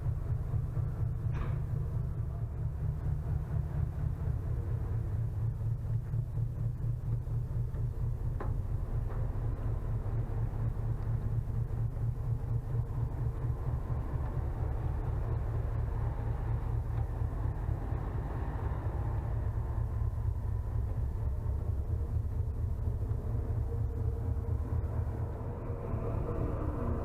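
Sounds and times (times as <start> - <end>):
ship running noise: 0.0 - 27.0.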